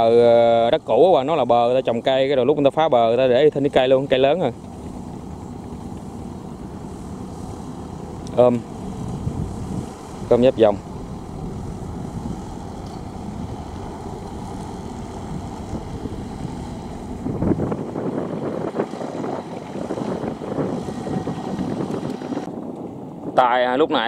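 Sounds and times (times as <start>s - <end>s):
diesel engine running: 0.0s - 23.3s
wind noise on microphone: 0.0s - 24.0s.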